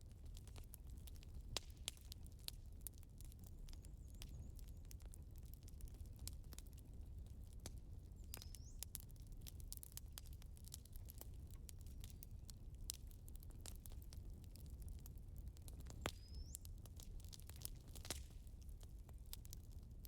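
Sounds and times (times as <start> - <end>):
burning logs crackling and popping: 0.0 - 20.0.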